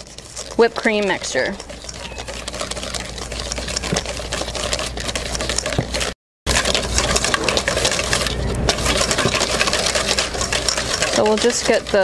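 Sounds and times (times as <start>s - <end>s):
whisk clicking in metal bowl: 0.0s - 12.0s.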